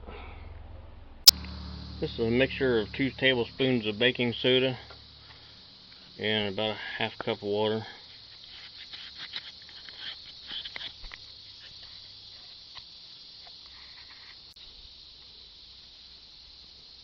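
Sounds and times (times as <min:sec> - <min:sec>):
steady high hiss: 0:01.2 - 0:17.0.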